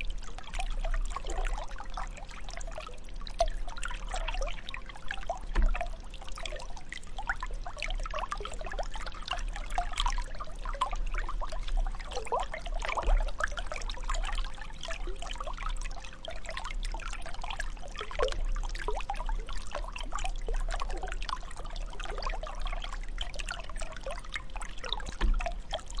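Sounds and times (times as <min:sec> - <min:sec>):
water trickling and bubbling: 0:00.0 - 0:26.0.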